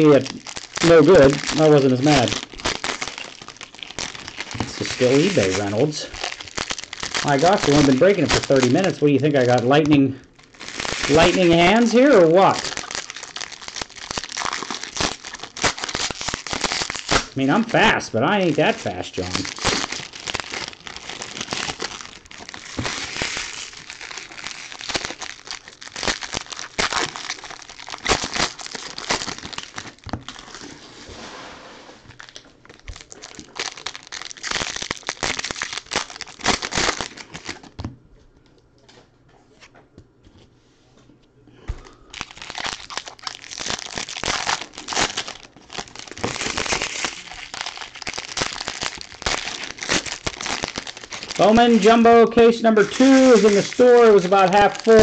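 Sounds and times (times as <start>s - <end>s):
foil wrappers crinkling and tearing: 0.0s - 30.9s, 32.1s - 37.8s, 41.8s - 55.0s.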